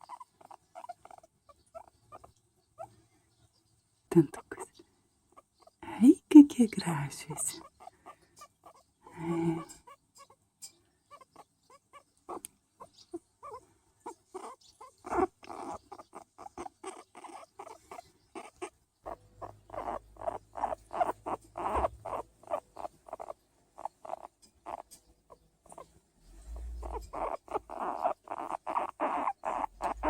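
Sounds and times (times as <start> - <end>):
guinea pig making short calls: 0.0 - 2.9, 7.5 - 10.4, 11.1 - 30.0.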